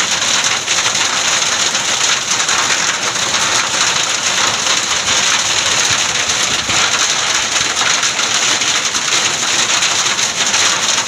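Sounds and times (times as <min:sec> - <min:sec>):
hail and rain pelting a road: 0:00.0 - 0:11.0.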